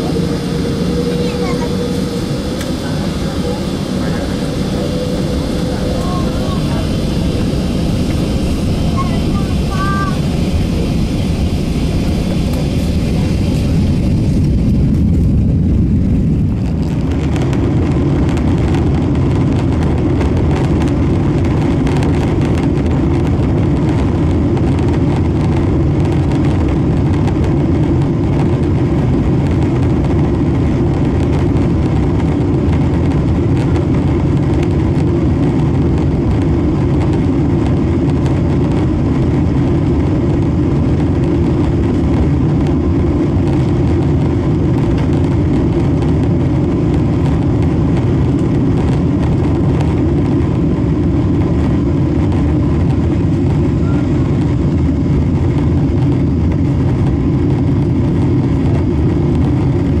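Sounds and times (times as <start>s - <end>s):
jet engines at takeoff thrust: 0.0s - 60.0s.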